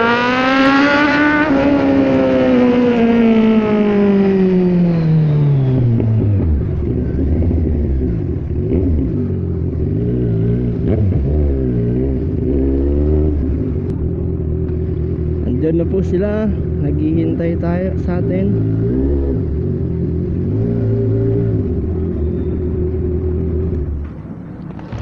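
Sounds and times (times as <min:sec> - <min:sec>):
motorcycle engine: 0:00.0 - 0:25.0.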